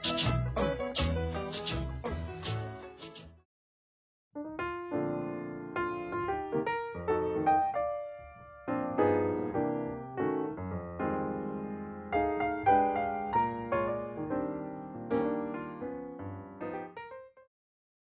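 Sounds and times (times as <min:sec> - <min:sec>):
piano chords and notes: 0:00.0 - 0:03.4, 0:04.4 - 0:17.4.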